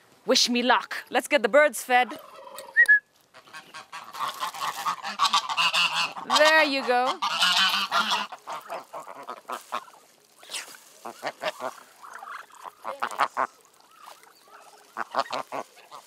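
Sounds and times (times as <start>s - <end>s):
ducks quacking: 2.1s - 16.0s
geese honking: 2.1s - 16.0s.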